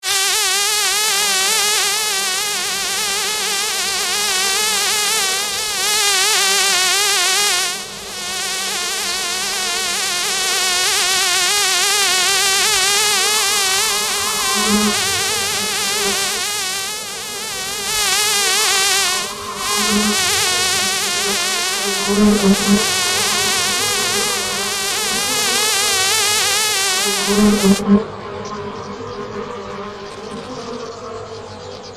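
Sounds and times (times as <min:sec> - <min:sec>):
honey bee buzzing: 0:00.0 - 0:28.0.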